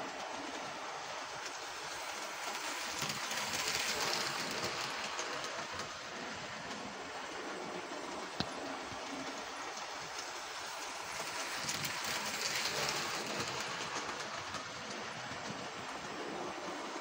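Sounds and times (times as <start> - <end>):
model train wheels rattling: 0.1 - 17.0.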